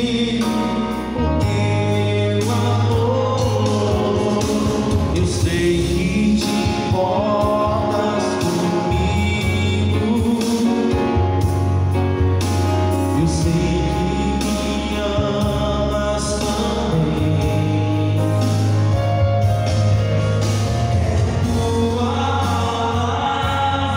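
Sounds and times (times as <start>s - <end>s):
man singing: 0.0s - 11.6s, 12.9s - 23.9s
electronic keyboard chords: 0.0s - 23.9s.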